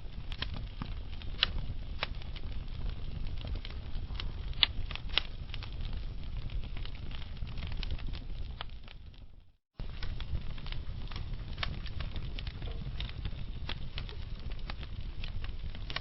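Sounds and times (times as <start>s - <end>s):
logs crackling and popping: 0.0s - 16.0s
low steady fire rumble: 0.0s - 16.0s.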